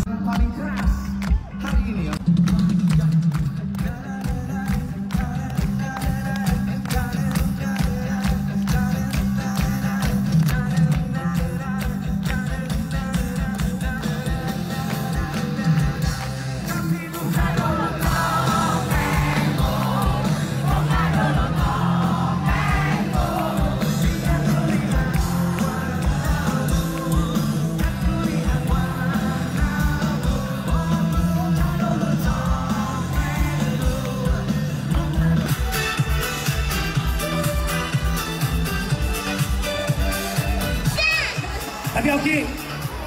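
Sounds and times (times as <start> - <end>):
crowd singing and shouting along: 0.0 - 43.0
pop-rock band over loudspeakers: 0.0 - 43.0.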